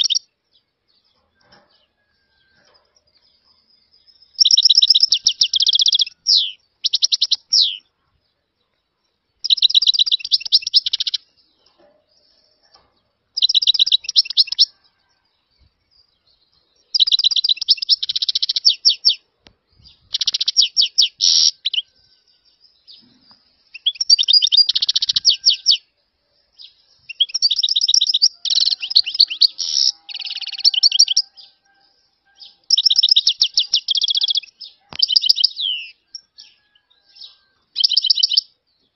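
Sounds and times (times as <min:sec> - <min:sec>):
goldfinch twittering song: 0:00.0 - 0:02.6, 0:03.2 - 0:07.9, 0:09.4 - 0:12.6, 0:13.4 - 0:25.9, 0:26.5 - 0:38.7.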